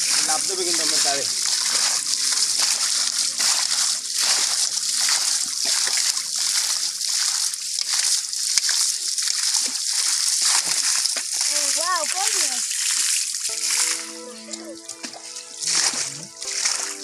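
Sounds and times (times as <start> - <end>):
splashing through muddy water: 0.0 - 17.0.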